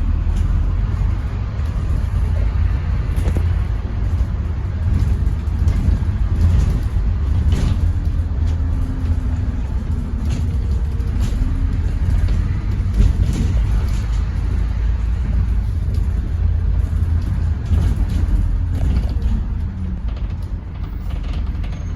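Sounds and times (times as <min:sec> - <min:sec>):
bus engine rumble: 0:00.0 - 0:21.9
light rattles: 0:00.2 - 0:21.9.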